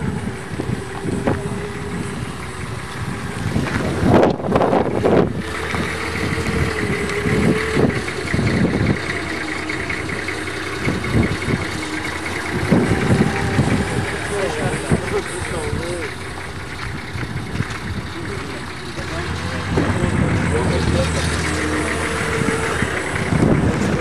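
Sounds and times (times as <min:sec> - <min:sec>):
burst of low rumbling: 0:00.0 - 0:24.0
engine idling: 0:00.0 - 0:24.0.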